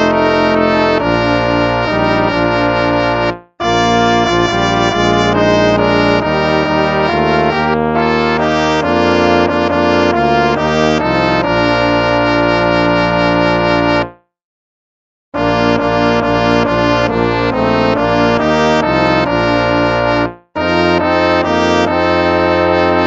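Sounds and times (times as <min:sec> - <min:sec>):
brass playing hymn music: 0:00.0 - 0:14.2, 0:15.4 - 0:23.0.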